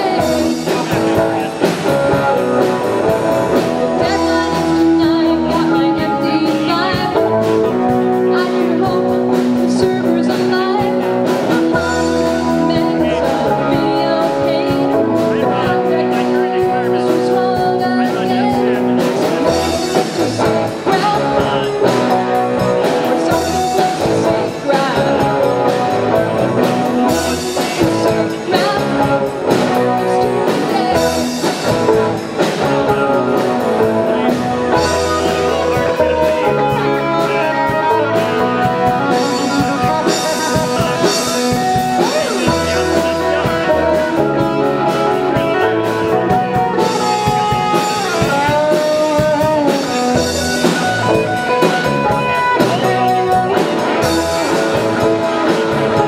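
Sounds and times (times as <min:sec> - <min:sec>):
bass guitar: 0:00.0 - 0:56.0
drum kit: 0:00.0 - 0:56.0
electric guitar: 0:00.0 - 0:56.0
keyboard: 0:00.0 - 0:56.0.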